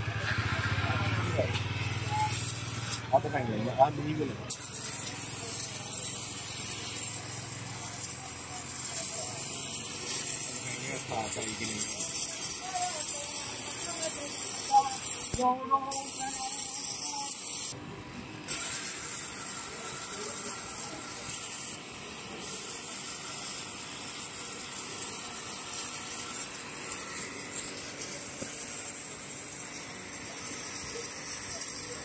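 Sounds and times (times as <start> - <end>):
pressure washer water jet hissing: 0.0 - 17.8, 18.5 - 32.0.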